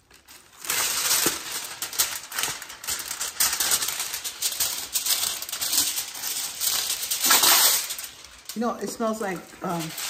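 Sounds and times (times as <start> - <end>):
aluminum foil tearing: 0.0 - 10.0
foil crinkling: 0.0 - 10.0.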